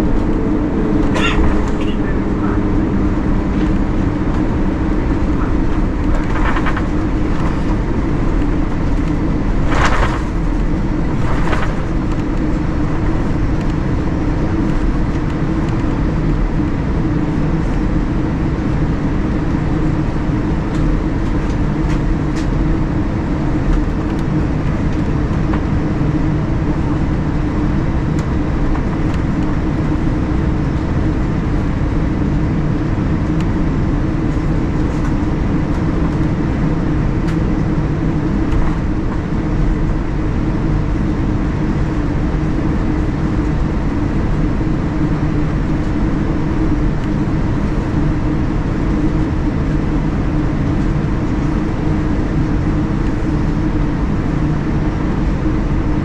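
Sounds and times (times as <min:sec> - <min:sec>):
jet engines humming: 0:00.0 - 0:56.0
rumble of rolling airframe: 0:00.0 - 0:56.0.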